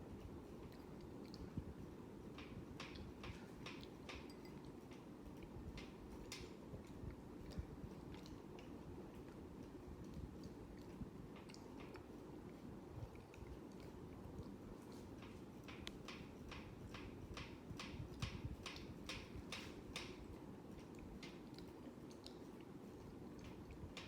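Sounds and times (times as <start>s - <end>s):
ceiling fan humming: 0.0s - 24.0s
irregular clicking: 2.3s - 14.0s, 14.9s - 22.7s.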